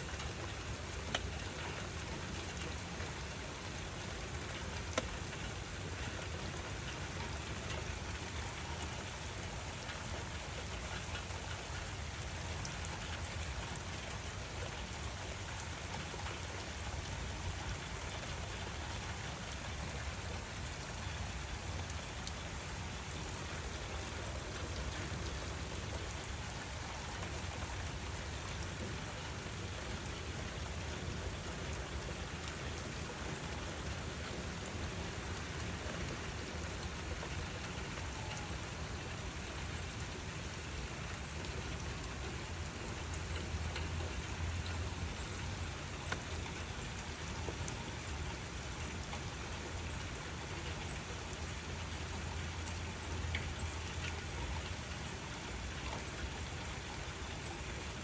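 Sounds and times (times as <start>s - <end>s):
rain falling: 0.0s - 58.0s
raindrop ticks: 0.0s - 58.0s.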